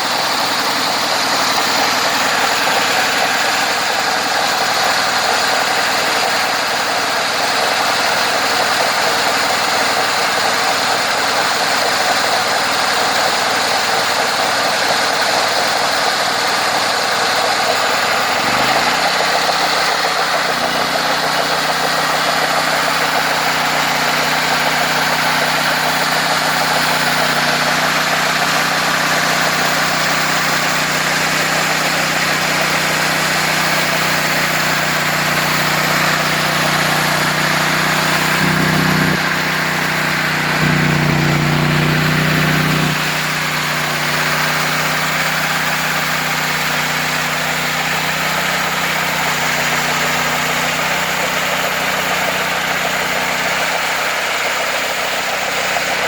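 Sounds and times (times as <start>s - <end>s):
sawmill engine roaring: 0.0s - 56.0s.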